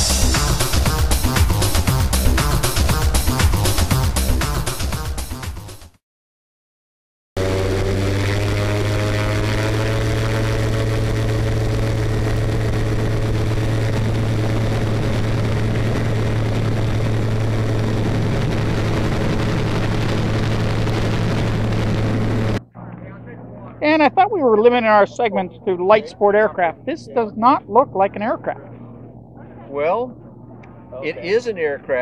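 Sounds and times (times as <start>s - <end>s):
autogyro engine and propeller drone: 0.0s - 5.4s, 7.4s - 32.0s.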